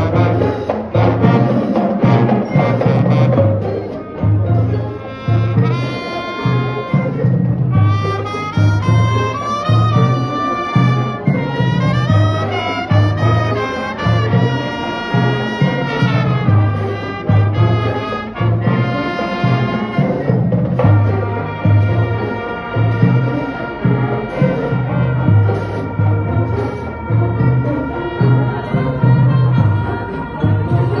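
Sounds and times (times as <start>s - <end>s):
brass band music: 0.0s - 31.0s.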